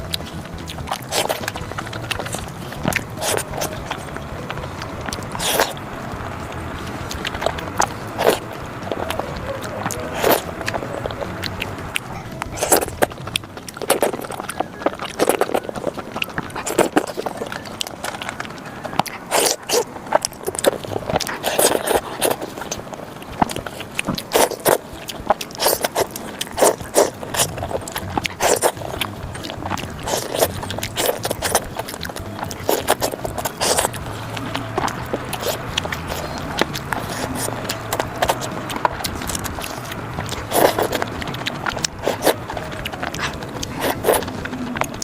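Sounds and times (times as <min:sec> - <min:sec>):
chewing and biting: 0:00.0 - 0:45.0
mouth clicks and smacks: 0:00.0 - 0:45.0.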